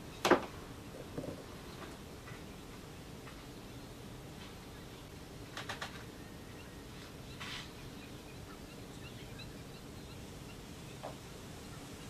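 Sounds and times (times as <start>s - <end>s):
distant wetland birds chirping: 0.0s - 12.0s.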